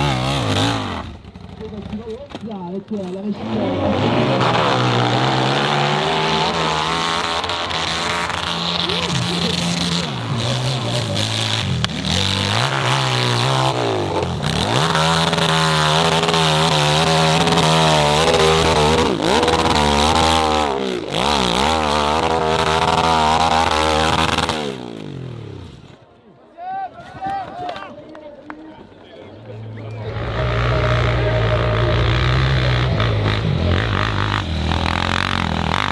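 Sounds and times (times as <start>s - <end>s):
motorcycle engine revving: 0.0s - 26.0s, 29.8s - 35.9s.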